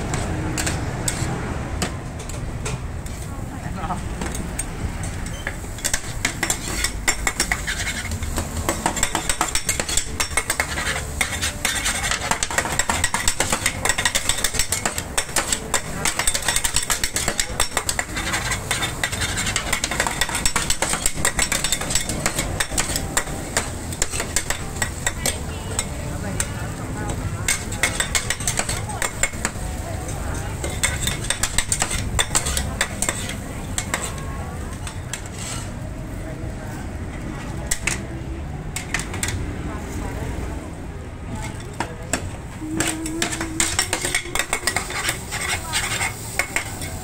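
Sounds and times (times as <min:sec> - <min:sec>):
metal spatulas scraping griddle: 0:00.0 - 0:02.4, 0:04.2 - 0:35.8, 0:41.4 - 0:47.0.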